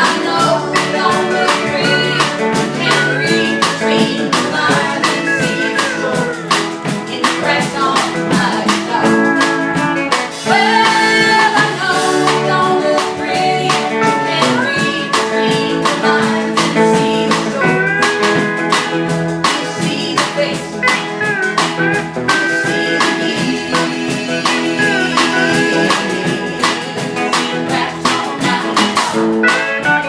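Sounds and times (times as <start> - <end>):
live blues band playing: 0.0 - 30.0.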